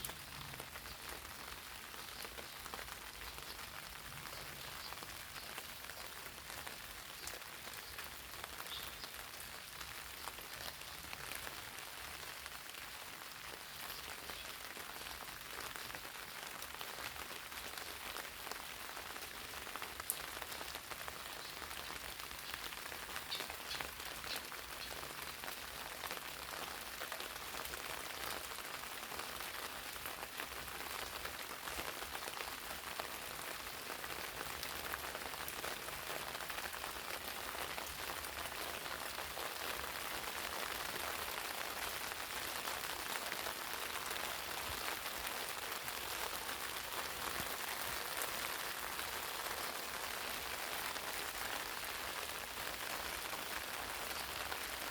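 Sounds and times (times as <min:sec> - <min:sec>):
rain pattering on leaves: 0:00.0 - 0:54.9.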